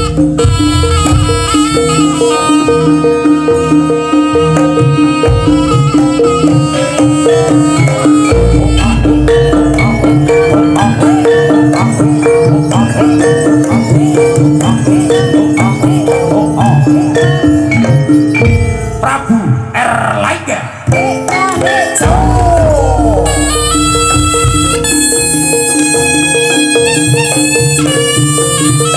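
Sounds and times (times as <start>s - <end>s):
traditional gamelan music: 0.0s - 28.9s.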